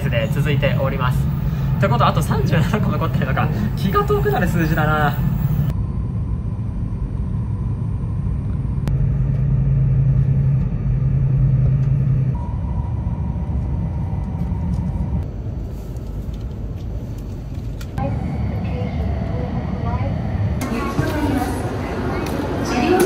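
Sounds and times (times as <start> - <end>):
train rumble inside carriage: 0.0 - 5.8, 8.4 - 23.0
low hum: 0.0 - 23.0.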